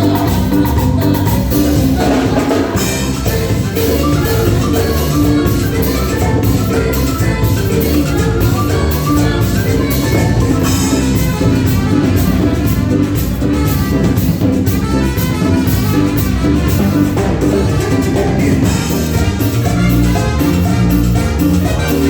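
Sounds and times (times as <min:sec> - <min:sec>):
drum kit and percussion beat: 0:00.0 - 0:22.0
live band playing latin dance music: 0:00.0 - 0:22.0.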